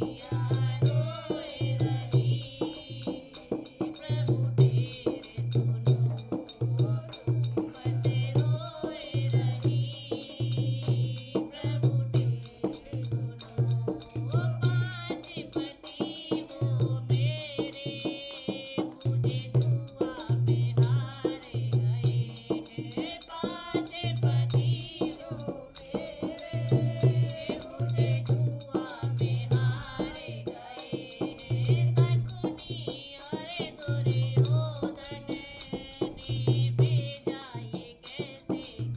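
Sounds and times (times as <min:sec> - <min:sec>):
jingling percussion: 0:00.0 - 0:38.9
steady drum beat: 0:00.0 - 0:38.9.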